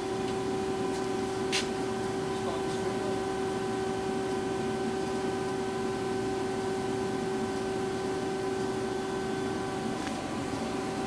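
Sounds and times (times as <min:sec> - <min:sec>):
constant machine whine: 0:00.0 - 0:11.0
machine hum: 0:00.0 - 0:11.0.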